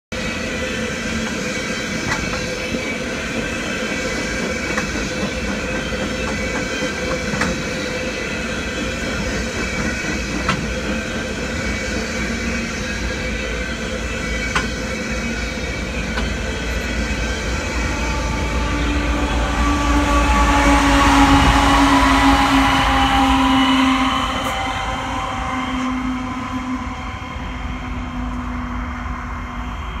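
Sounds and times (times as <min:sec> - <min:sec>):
diesel locomotive passing: 0:00.1 - 0:30.0.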